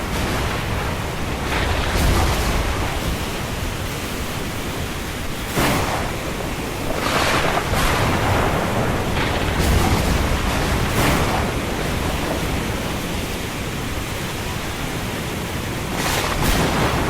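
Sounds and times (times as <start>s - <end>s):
storm wind rushing: 0.0s - 17.0s.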